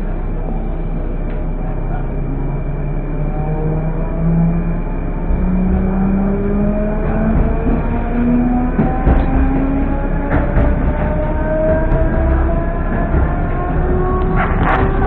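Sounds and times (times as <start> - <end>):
traction motors whining: 0.0 - 15.0
wheels rumbling on rails: 0.0 - 15.0.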